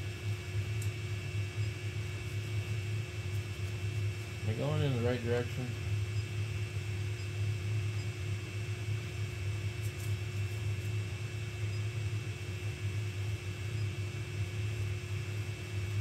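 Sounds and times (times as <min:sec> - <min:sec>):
printer fans humming: 0:00.0 - 0:16.0.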